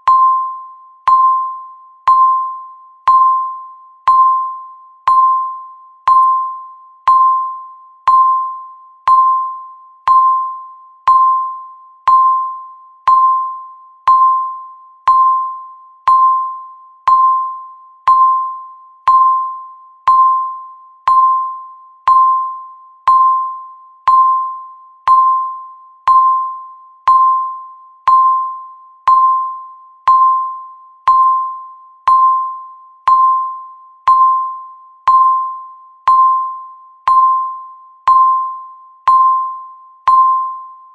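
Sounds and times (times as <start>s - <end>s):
timer tick with bell-like ping: 0.0s - 40.9s.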